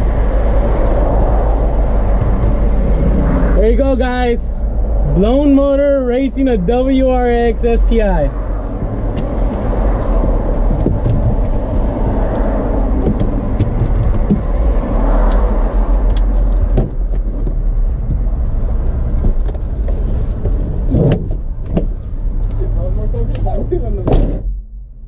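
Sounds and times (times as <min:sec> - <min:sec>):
vehicle rumble inside car: 0:00.0 - 0:25.0.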